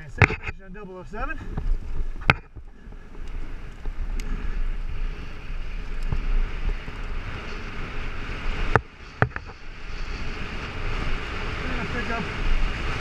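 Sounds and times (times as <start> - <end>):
bike tyre and trail noise: 0.0 - 13.0
wind rushing over microphone: 0.0 - 13.0.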